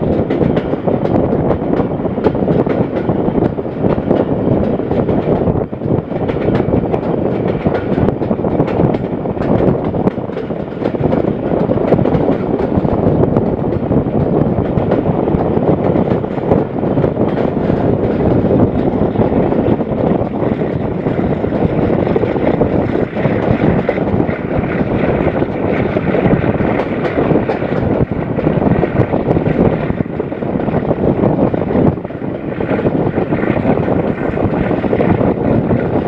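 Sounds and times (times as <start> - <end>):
rushing air: 0.0 - 36.0
train wheels on rail: 0.0 - 36.0.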